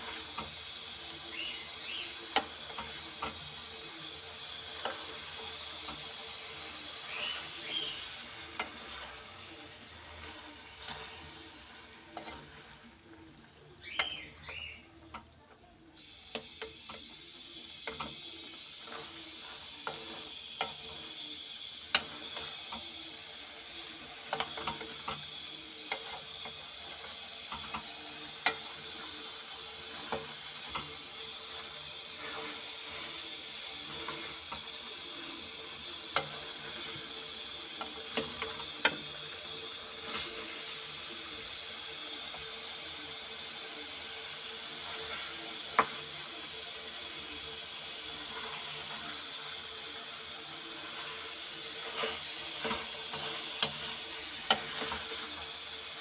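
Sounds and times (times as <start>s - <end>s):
vegetables sizzling in a pot: 0.0s - 56.0s.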